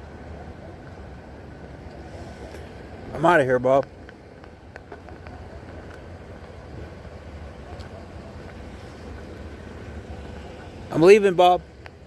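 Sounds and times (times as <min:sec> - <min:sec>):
idling vehicles and traffic rumble: 0:00.0 - 0:12.0.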